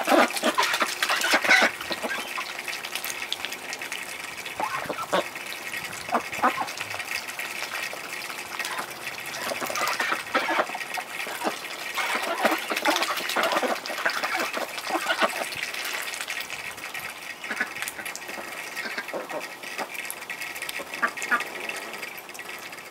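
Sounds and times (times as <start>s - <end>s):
ducks dabbling and splashing: 0.0s - 22.9s
water running: 0.0s - 22.9s.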